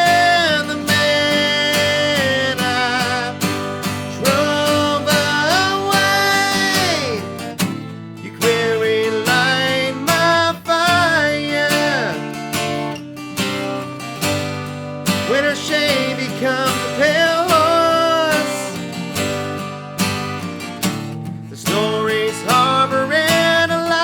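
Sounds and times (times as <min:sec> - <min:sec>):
man singing: 0:00.0 - 0:13.8, 0:15.0 - 0:19.3, 0:21.4 - 0:24.0
acoustic guitar strumming: 0:00.0 - 0:24.0.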